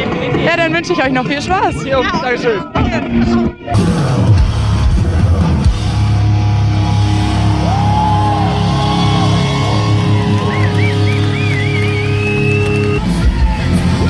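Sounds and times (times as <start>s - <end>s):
loud rock music with guitar: 0.0s - 14.0s.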